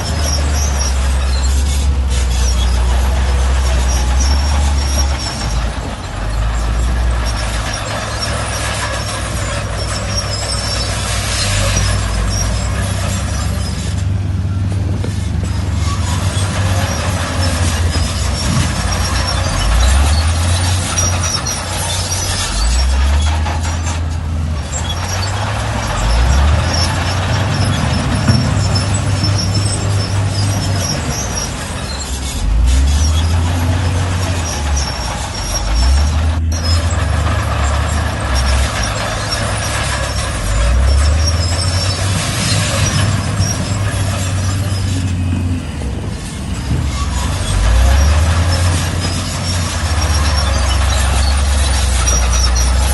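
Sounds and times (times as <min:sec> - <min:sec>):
constant clattering: 0:00.0 - 0:52.9
diesel machinery engine revving: 0:00.0 - 0:52.9.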